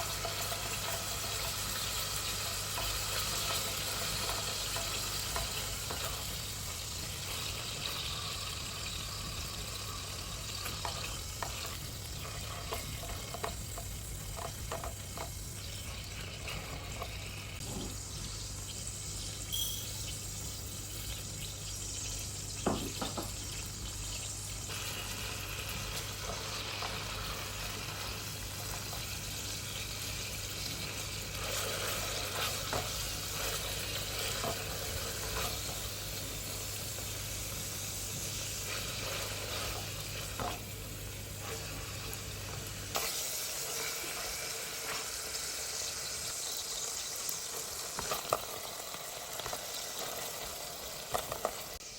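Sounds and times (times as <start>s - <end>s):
food sizzling in a pan: 0.0s - 51.9s.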